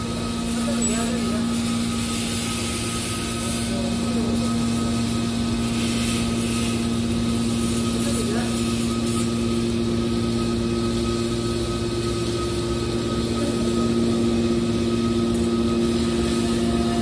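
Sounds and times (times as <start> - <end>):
hydraulic baler humming and whining: 0.0 - 17.0.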